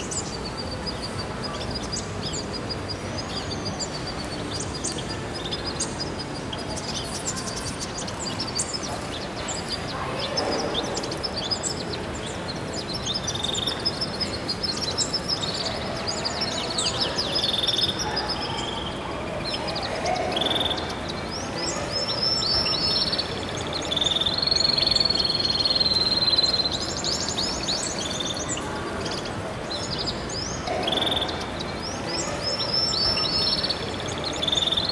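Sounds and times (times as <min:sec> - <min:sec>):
small birds chirping and twittering: 0:00.0 - 0:34.9.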